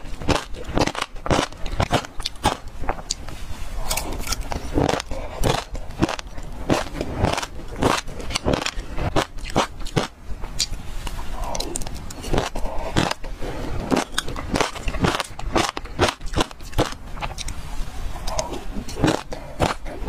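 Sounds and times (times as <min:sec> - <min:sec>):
chewing and crunching seeds: 0:00.0 - 0:20.0.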